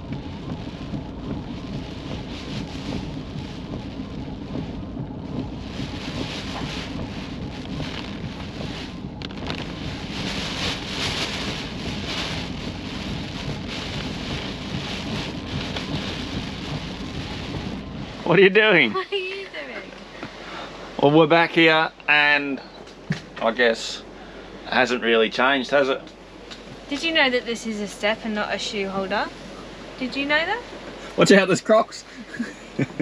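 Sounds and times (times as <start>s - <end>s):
heavy rain falling: 0.0s - 33.0s
road noise: 0.0s - 33.0s
vehicle engine rumble: 0.0s - 33.0s.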